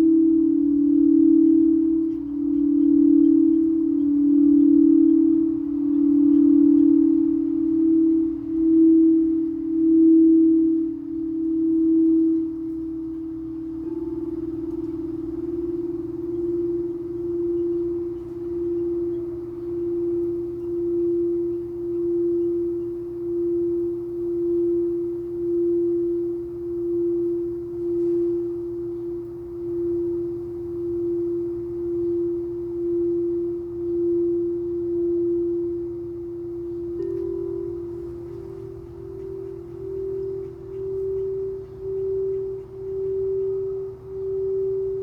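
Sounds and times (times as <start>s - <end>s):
higher singing bowl tone: 0.0s - 45.0s
singing bowl tone: 0.0s - 45.0s.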